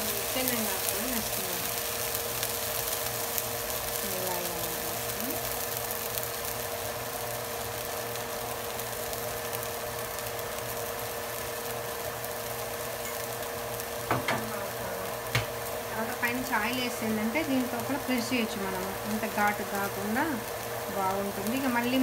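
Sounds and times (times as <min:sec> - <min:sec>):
constant hum: 0:00.0 - 0:22.0
dosa sizzling on griddle: 0:00.0 - 0:22.0.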